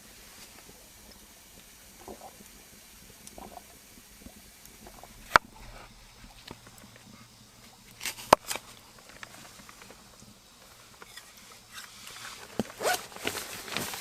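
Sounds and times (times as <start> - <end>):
faint rustling and ticking: 0.2 - 14.0.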